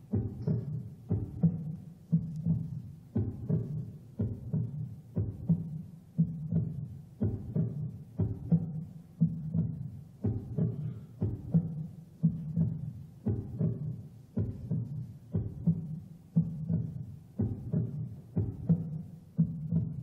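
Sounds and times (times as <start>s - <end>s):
low heartbeat-like double thump: 0.1s - 20.0s.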